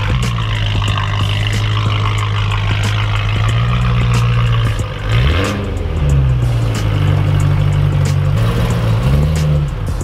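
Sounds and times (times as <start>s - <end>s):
background music: 0.0s - 10.0s
car engine revving: 0.0s - 10.0s.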